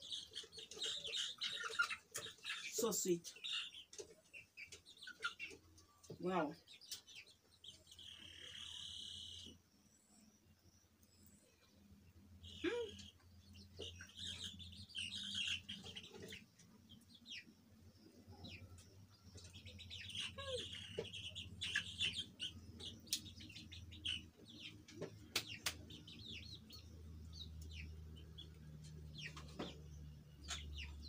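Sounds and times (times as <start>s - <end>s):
chicken calls: 0.0s - 9.6s, 12.3s - 31.0s
birds chirping: 0.0s - 31.0s.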